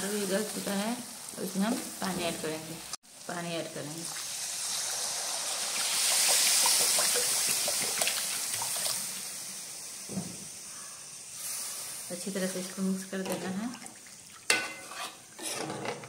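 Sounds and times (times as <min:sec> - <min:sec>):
water hissing in hot pan: 0:00.0 - 0:15.4.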